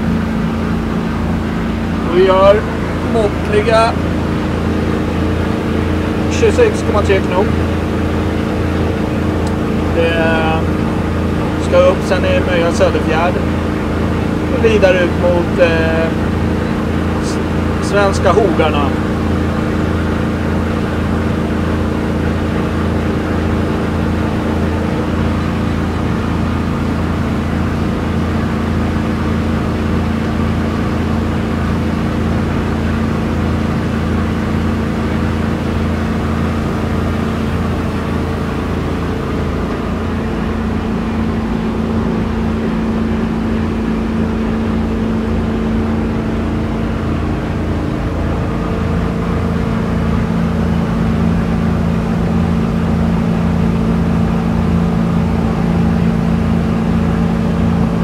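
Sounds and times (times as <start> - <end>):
motorboat engine droning: 0.0 - 58.0
water rushing along hull: 0.0 - 58.0.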